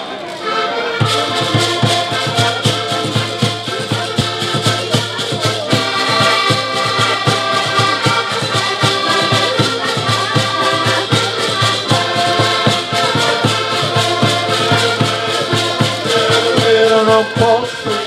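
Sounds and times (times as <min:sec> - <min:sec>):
button accordions playing: 0:00.0 - 0:18.0
small stringed instrument: 0:00.0 - 0:18.0
rattling percussion: 0:00.1 - 0:18.0.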